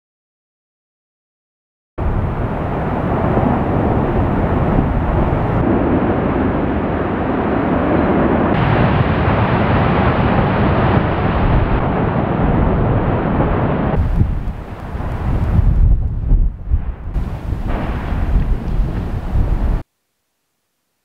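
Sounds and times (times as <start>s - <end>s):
lava churning and spattering: 2.0s - 19.8s.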